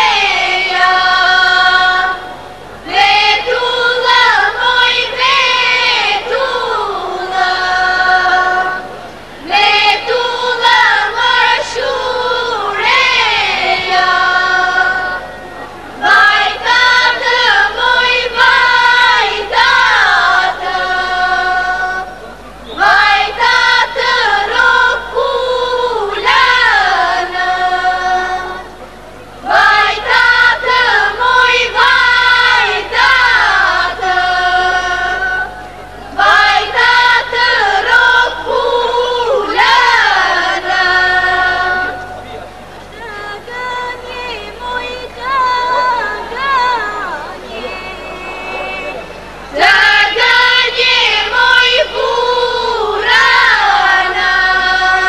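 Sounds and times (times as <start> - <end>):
women's choir singing folk song: 0.0 - 55.0.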